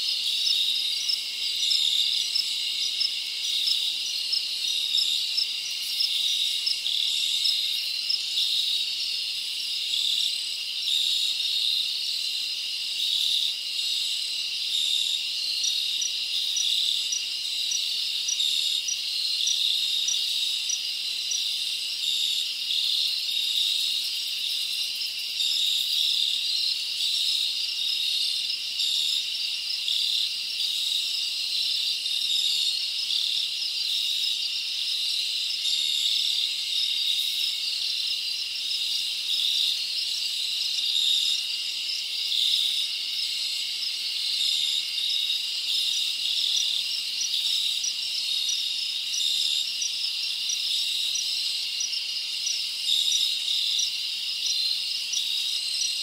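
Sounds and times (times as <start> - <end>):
insects chirping chorus: 0.0 - 56.0.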